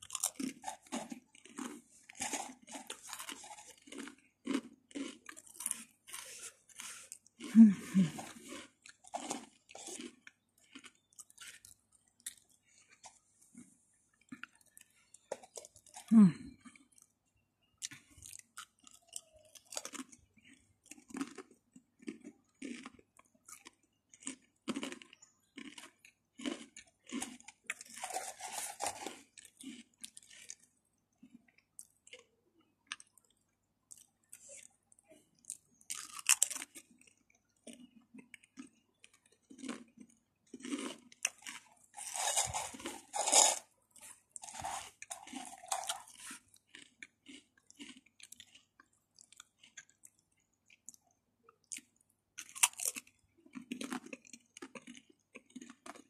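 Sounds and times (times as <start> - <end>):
person crunching crisps: 0.0 - 13.3, 14.1 - 17.1, 17.8 - 34.7, 35.4 - 51.0, 51.6 - 56.0.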